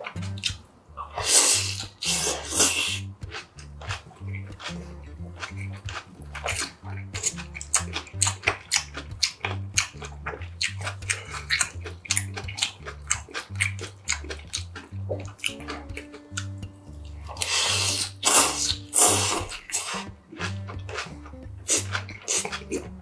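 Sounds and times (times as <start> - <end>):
slurping broth: 0.0 - 23.0
wet crunchy chewing: 0.0 - 23.0.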